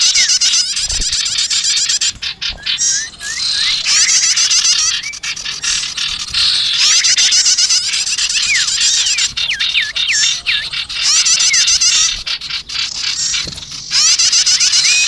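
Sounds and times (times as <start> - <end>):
high-pitched bird chirping: 0.0 - 15.0.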